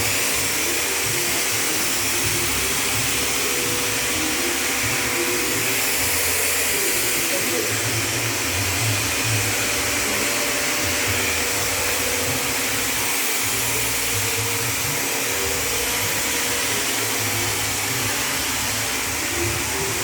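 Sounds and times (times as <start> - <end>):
machine whooshing hiss: 0.0 - 20.0.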